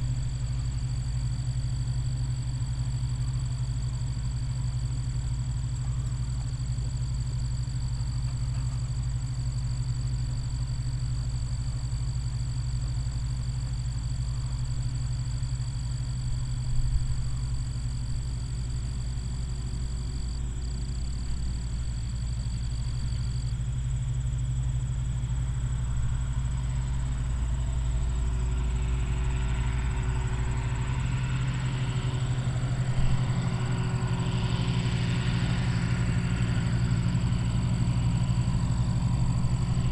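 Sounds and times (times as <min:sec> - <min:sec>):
combine harvester engine rumble: 0:00.0 - 0:39.9.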